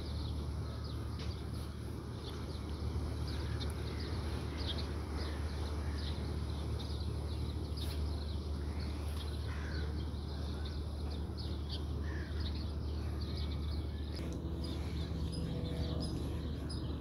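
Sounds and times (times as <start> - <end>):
steady low hum: 0.0 - 17.0
birds chirping and calling: 0.1 - 17.0.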